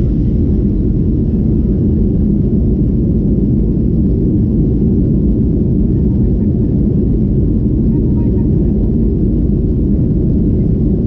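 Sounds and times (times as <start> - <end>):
airliner cabin jet engine rumble: 0.0 - 11.0.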